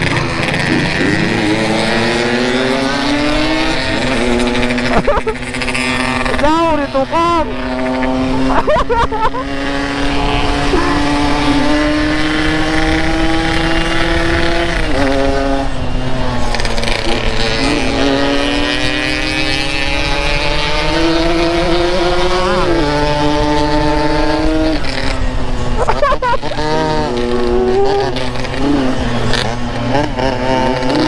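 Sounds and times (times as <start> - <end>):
two-stroke motorcycle engine: 0.0 - 31.0.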